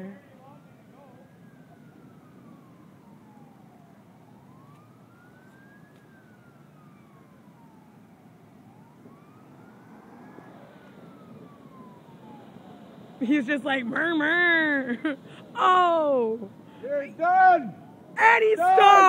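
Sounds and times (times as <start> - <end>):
faint police siren wailing: 0.0 - 19.0
low rumble of traffic: 0.0 - 19.0.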